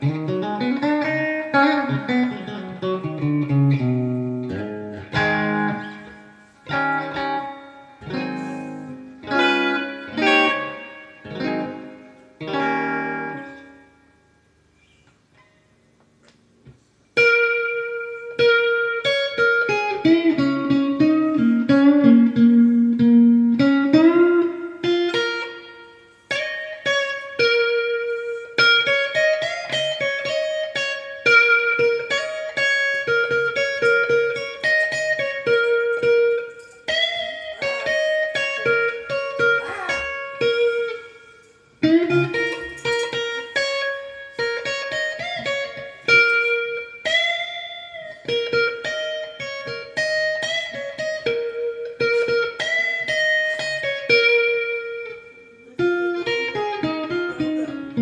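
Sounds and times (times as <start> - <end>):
electric guitar with spring reverb: 0.0 - 58.0.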